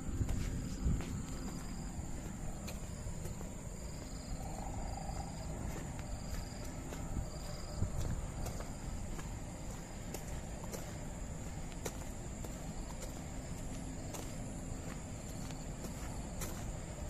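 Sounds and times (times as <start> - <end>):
footsteps on dirt path: 0.0 - 17.0.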